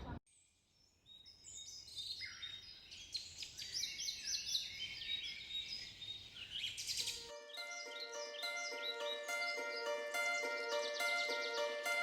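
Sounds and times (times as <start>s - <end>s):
birds chirping in chorus: 0.7s - 12.0s.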